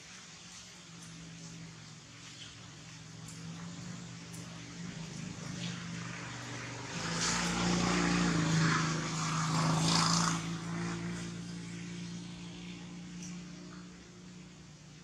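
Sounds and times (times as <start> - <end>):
motor engine passing by: 1.0 - 15.0.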